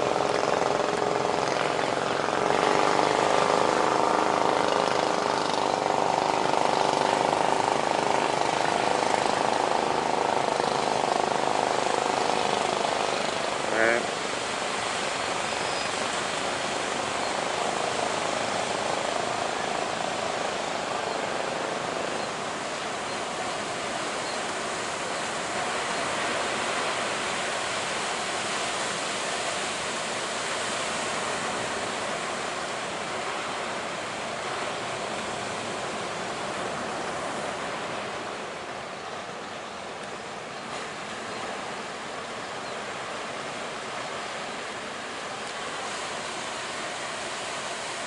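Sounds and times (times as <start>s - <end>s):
ocean waves breaking: 0.0s - 48.0s.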